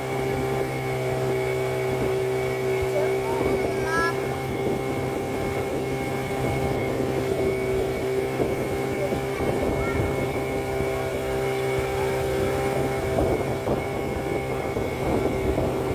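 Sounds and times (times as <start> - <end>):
motor humming with high whine: 0.0 - 15.9.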